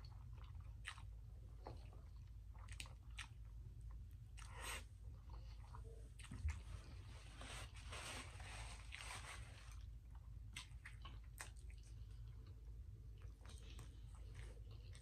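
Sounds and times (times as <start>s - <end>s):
wet chewing mouth sounds: 0.0s - 7.0s, 9.7s - 15.0s.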